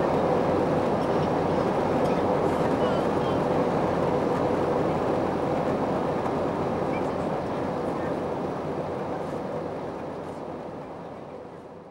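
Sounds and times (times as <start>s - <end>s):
airliner cabin noise: 0.0s - 11.8s.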